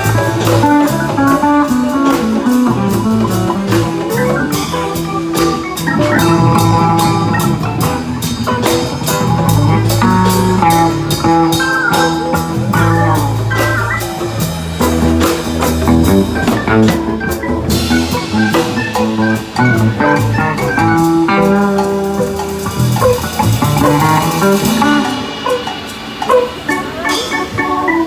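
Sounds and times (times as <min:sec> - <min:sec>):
electric bass: 0:00.0 - 0:25.4
drum kit beat: 0:00.0 - 0:28.0
guitars: 0:00.0 - 0:28.0
hand percussion: 0:00.0 - 0:28.0
keyboards: 0:00.0 - 0:28.0.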